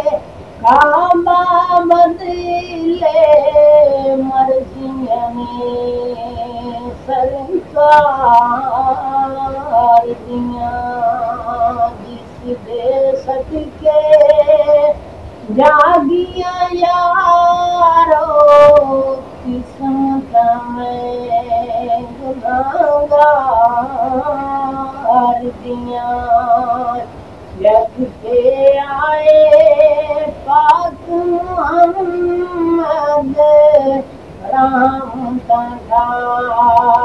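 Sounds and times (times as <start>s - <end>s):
man singing unaccompanied: 0.0s - 37.0s.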